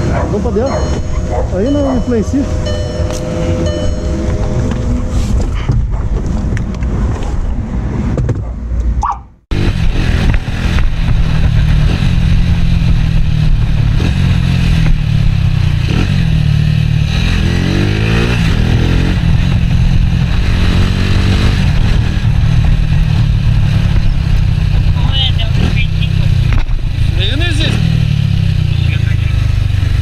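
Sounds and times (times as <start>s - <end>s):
motorcycle engine running: 0.0s - 6.0s, 9.5s - 30.0s.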